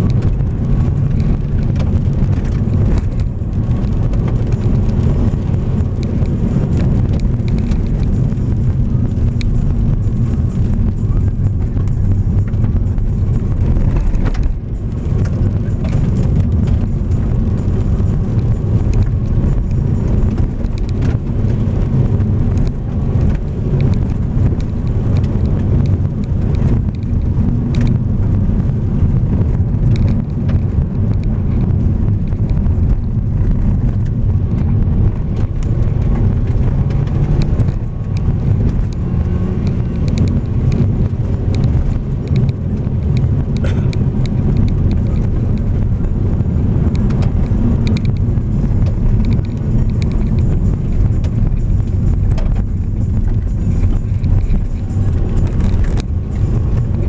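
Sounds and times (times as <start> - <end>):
engine and tyre rumble: 0.0 - 57.0
gravel clicking under tyres: 0.0 - 57.0.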